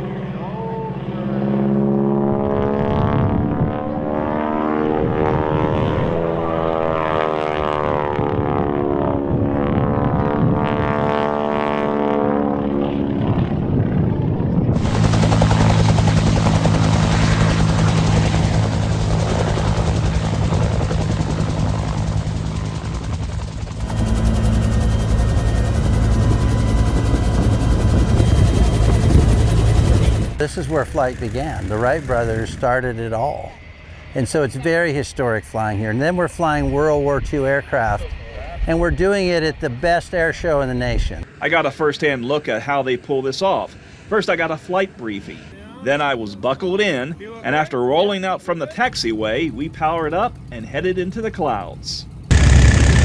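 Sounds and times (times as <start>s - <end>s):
propeller aircraft engine: 0.0s - 38.7s, 43.6s - 45.7s, 49.1s - 53.0s.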